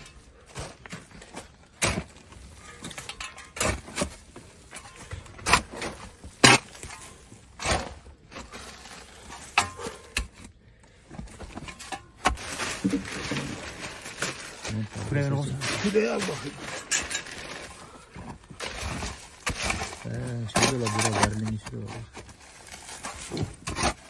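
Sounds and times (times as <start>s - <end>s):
digging into packed earth: 0.0s - 24.0s.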